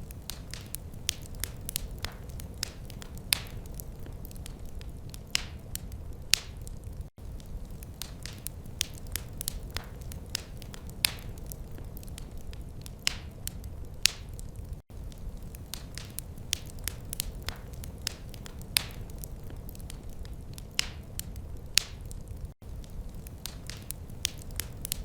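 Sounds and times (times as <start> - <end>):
low rumble of flame: 0.0 - 25.0
wood fire crackling: 0.0 - 25.0.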